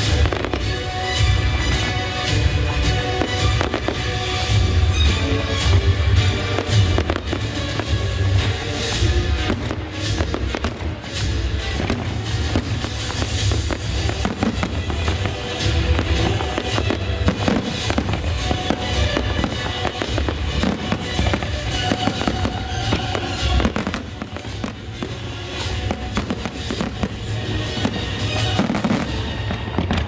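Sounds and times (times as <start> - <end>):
fireworks bursting: 0.0 - 30.0
music playing: 0.0 - 30.0.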